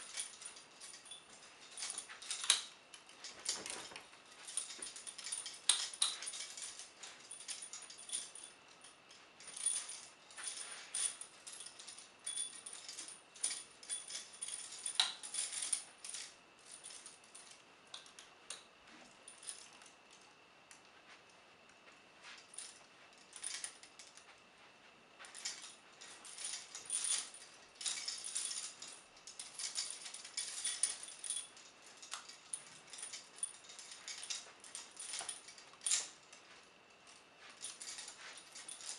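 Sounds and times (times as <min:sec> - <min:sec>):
steel shackles clinking: 0:00.0 - 0:21.3, 0:21.9 - 0:24.5, 0:25.1 - 0:38.9.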